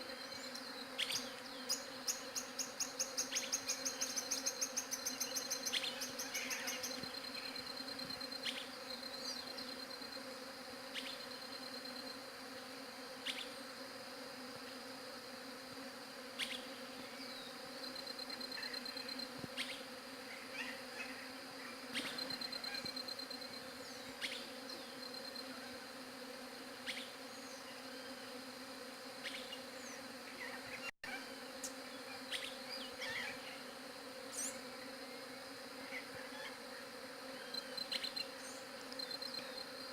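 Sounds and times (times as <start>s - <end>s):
high insect trill: 0.0s - 12.4s, 16.3s - 39.9s
bees buzzing: 0.0s - 39.9s.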